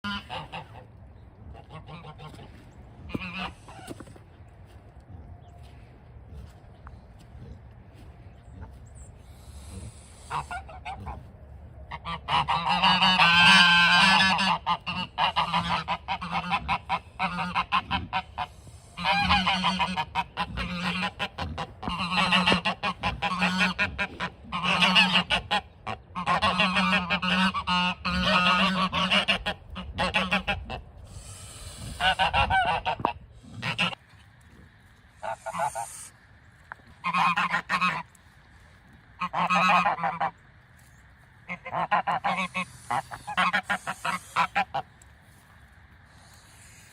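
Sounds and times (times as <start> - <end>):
geese honking: 0.0 - 4.3, 7.9 - 34.0, 35.2 - 38.2, 39.0 - 45.5.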